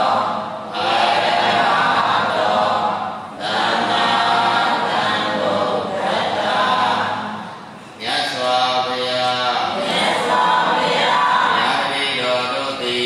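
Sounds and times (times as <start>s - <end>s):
voices chanting: 0.0s - 13.0s.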